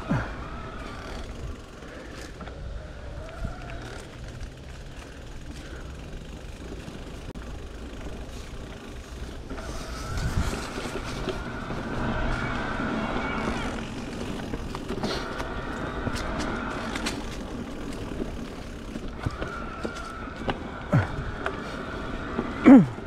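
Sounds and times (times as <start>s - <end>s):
bike clicks and rattles: 0.0s - 23.0s
wind and tyres rumbling: 0.0s - 23.0s.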